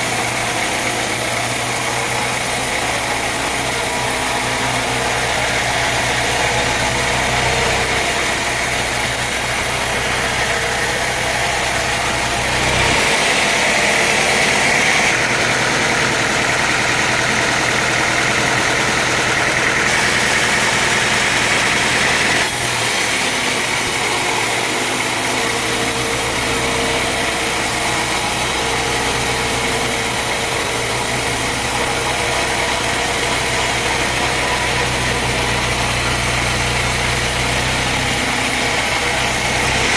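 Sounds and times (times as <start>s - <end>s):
woodworking machinery running: 0.0s - 39.9s.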